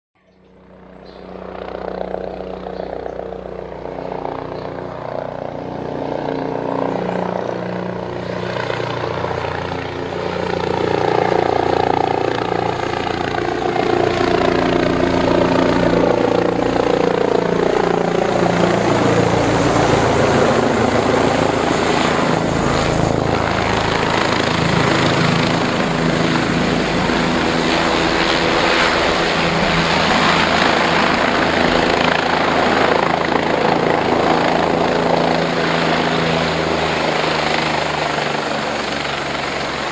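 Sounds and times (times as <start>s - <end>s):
helicopter rotor and engine: 0.2s - 39.9s.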